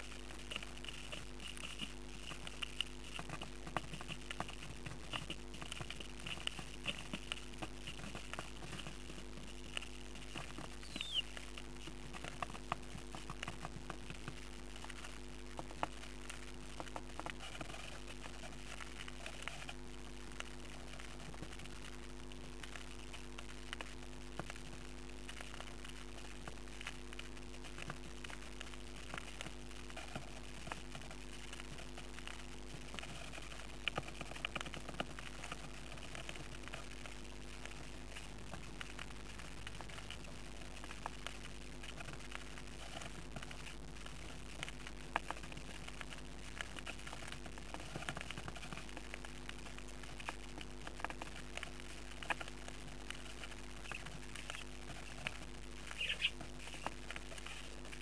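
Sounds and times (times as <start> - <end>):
birds scratching in nest: 0.0 - 58.0
electrical hum: 0.0 - 58.0.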